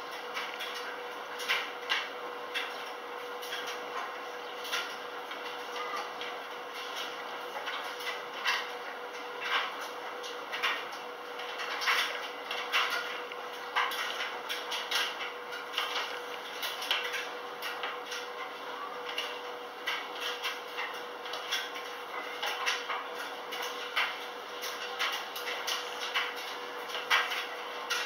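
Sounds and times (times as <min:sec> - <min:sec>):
washing machine hum: 0:00.0 - 0:28.0.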